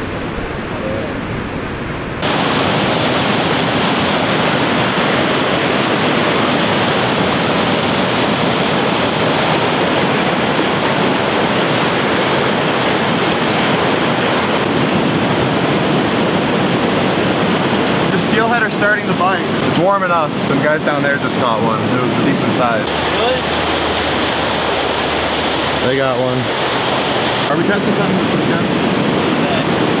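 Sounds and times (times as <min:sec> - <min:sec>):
river rapids rushing: 0:02.2 - 0:30.0.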